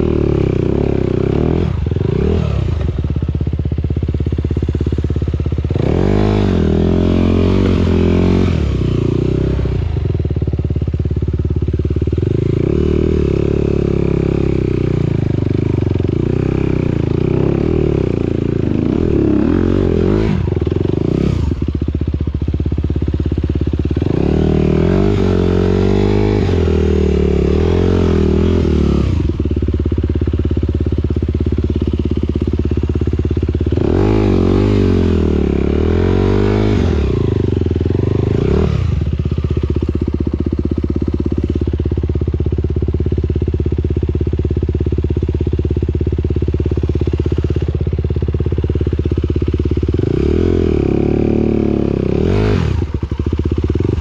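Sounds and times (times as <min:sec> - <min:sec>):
motorcycle engines revving: 0:00.0 - 0:10.6, 0:11.5 - 0:42.7, 0:45.5 - 0:54.0.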